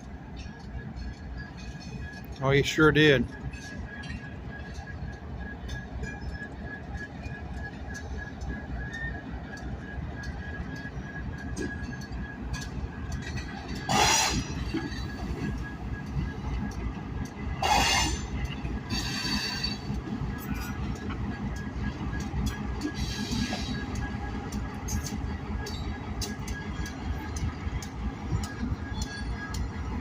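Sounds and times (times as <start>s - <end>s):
train cars rumbling: 0.0s - 30.0s.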